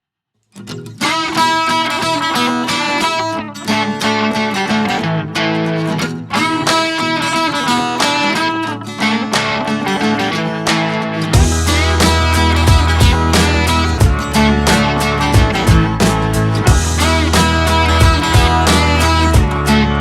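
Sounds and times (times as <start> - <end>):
guitar background music: 0.5 - 20.0.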